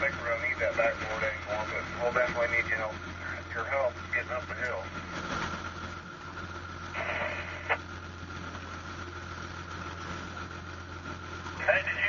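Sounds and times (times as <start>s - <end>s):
boat engine hum: 0.0s - 12.0s
radio hiss: 0.0s - 12.0s.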